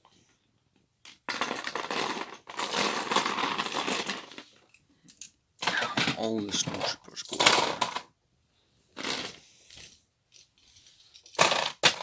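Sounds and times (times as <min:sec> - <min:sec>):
plastic figures clattering and rattling: 0:01.0 - 0:08.1, 0:09.0 - 0:12.0.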